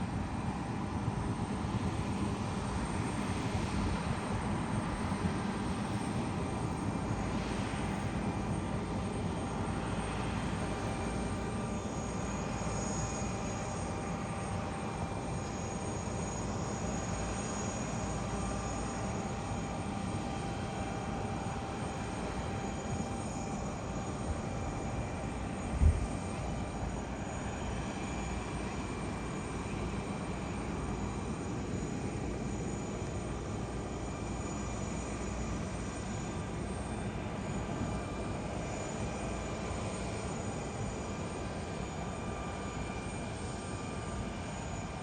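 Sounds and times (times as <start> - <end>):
aircraft engines rumbling: 0.0 - 45.0.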